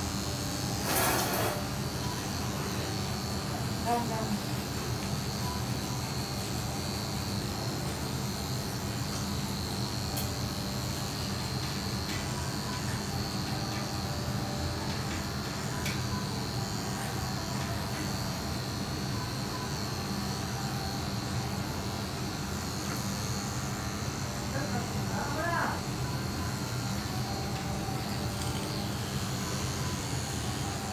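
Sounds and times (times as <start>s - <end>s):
electric pet clippers buzzing: 0.0s - 30.9s.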